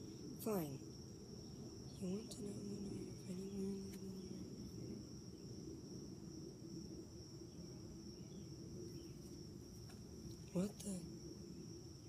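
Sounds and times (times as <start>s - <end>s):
faint low hum: 0.0s - 12.0s
insects trilling: 0.0s - 12.0s.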